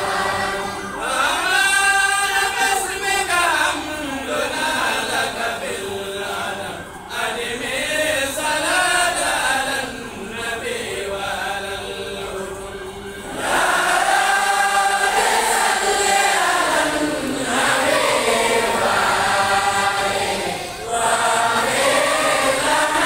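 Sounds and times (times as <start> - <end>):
men chanting together: 0.0 - 23.0.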